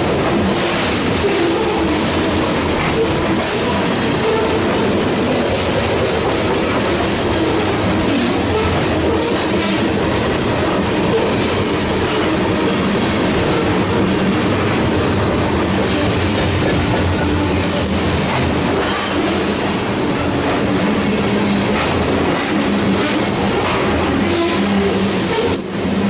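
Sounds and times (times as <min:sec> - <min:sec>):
steel wheels on rail: 0:00.0 - 0:26.0
train clickety-clack: 0:00.0 - 0:26.0.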